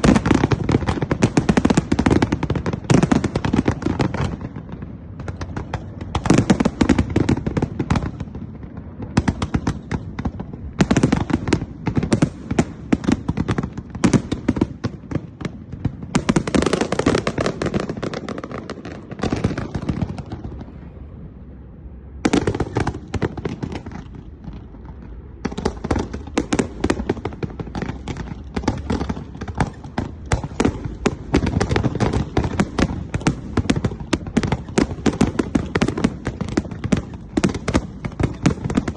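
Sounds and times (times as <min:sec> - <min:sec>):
fireworks crackling bangs: 0:00.0 - 0:21.0, 0:22.2 - 0:38.9.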